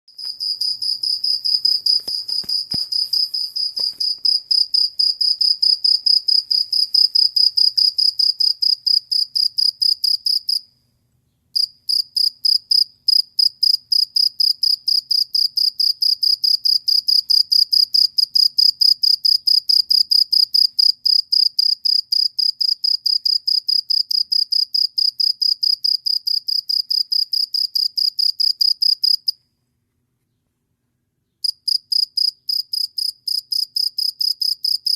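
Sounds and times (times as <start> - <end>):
cricket chirping: 0.2 - 10.7, 11.5 - 29.4, 31.4 - 34.9.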